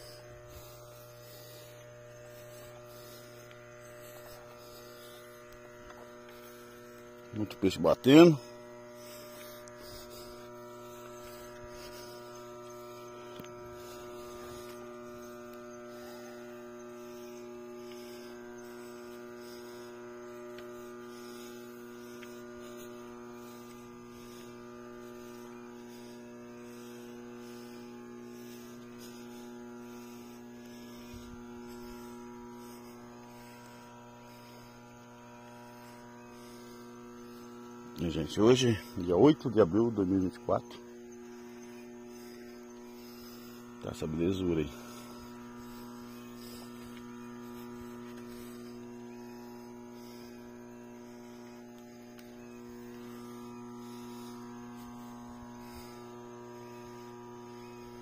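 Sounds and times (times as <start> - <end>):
steady electrical hum: 0.0 - 58.0.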